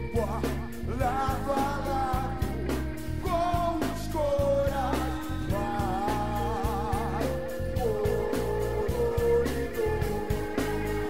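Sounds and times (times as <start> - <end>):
song with vocals and band: 0.0 - 11.0.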